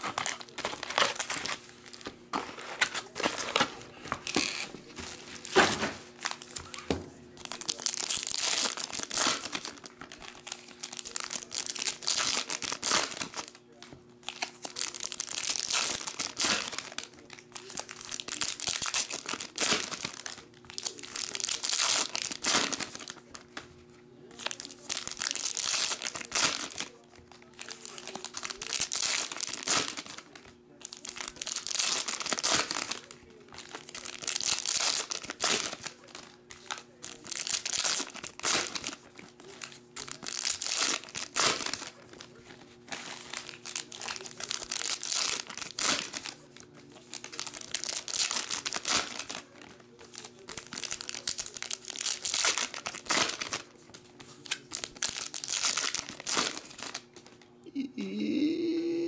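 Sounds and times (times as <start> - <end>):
foil wrappers crinkling: 0.0 - 57.5.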